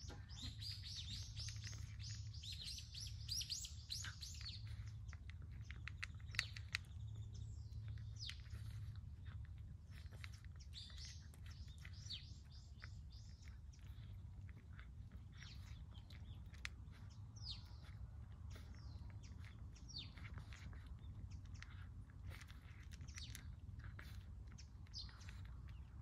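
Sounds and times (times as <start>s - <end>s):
cat crunching dry kibble: 0.0s - 26.0s
small birds chirping: 0.0s - 26.0s.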